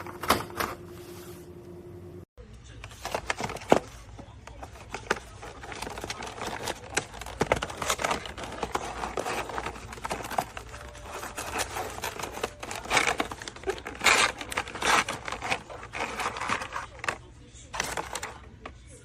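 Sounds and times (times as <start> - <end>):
crinkling and rustling: 2.7 - 19.0.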